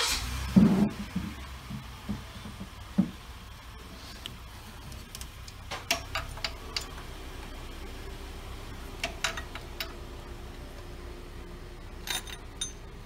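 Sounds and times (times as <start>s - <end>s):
faint steady hum: 0.3s - 13.0s.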